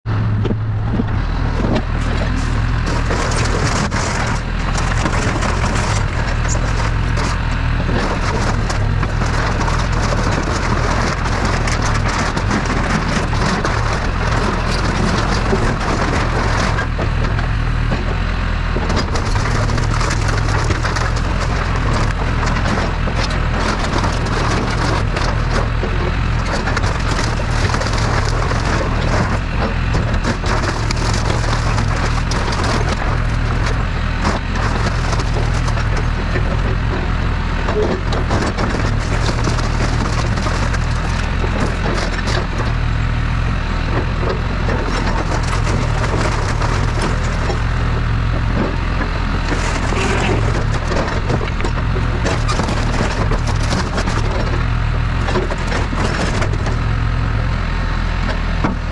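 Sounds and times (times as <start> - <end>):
diesel engine running: 0.0 - 58.9
wood cracking and splintering: 0.3 - 58.9.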